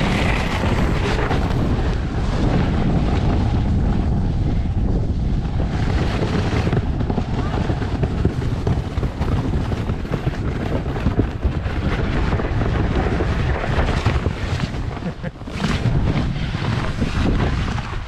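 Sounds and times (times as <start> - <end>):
snow tube scraping over snow: 0.0 - 18.0
wind buffeting microphone: 0.0 - 18.0.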